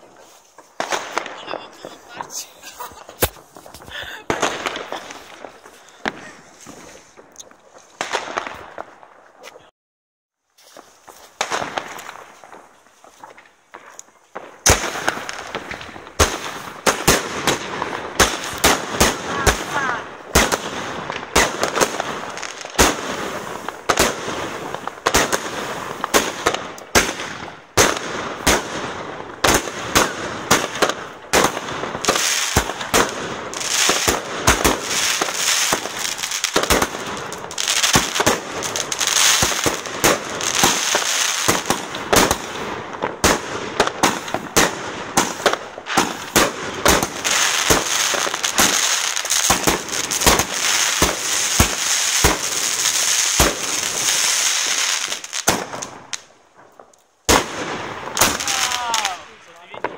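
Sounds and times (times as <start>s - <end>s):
fireworks banging: 0.0s - 9.7s, 10.6s - 59.9s
fireworks hissing crackle: 0.0s - 9.7s, 10.5s - 59.9s.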